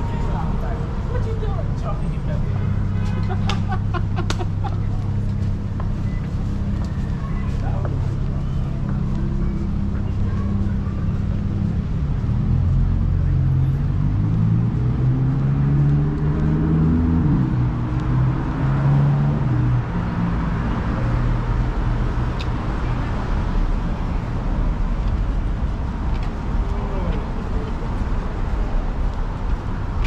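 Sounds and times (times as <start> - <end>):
vehicle engine running: 0.0 - 29.9
steady traffic hum: 0.0 - 30.0.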